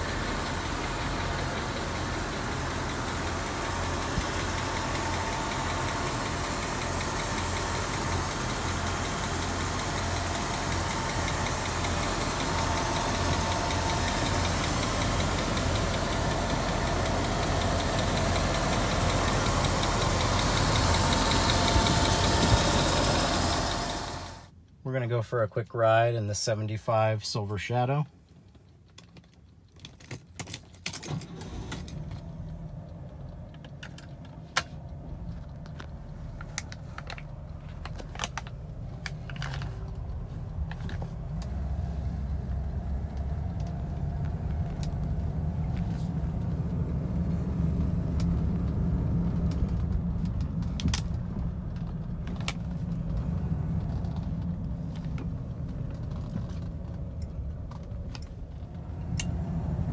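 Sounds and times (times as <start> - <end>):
car engine low rumble: 0.0 - 25.0, 30.9 - 59.9.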